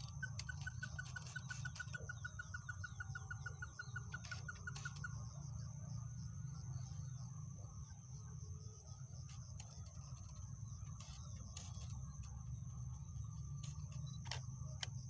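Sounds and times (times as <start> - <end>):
steady high-pitched hum: 0.0 - 15.0.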